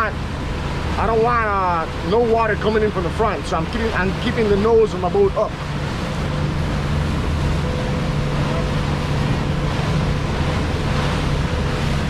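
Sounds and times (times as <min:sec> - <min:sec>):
outboard motor running: 0:00.0 - 0:12.0
water rushing past hull: 0:00.0 - 0:12.0.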